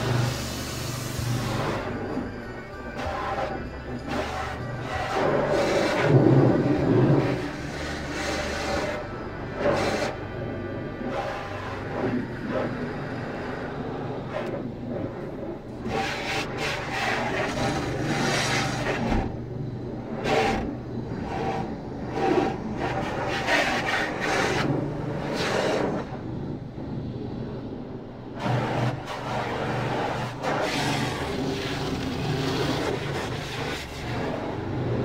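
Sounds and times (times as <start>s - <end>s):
car wash brushes and water spray: 0.0s - 35.0s
steady low hum: 0.0s - 35.0s.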